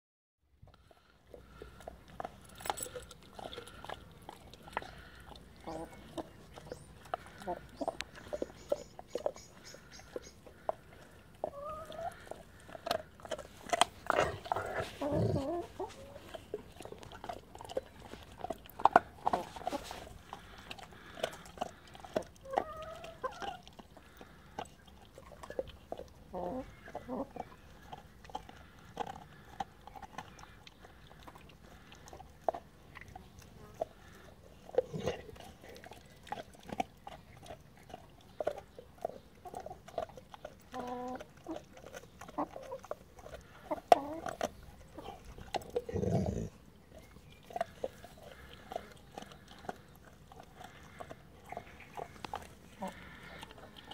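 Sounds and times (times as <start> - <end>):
dog chewing and crunching: 0.6 - 53.9
hen clucking: 3.4 - 18.2, 18.8 - 25.6, 26.2 - 32.6, 36.4 - 53.9.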